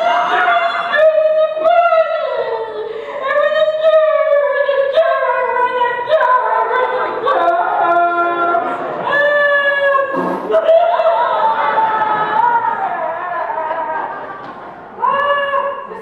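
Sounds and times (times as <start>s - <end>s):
high voice singing unaccompanied: 0.0s - 14.2s.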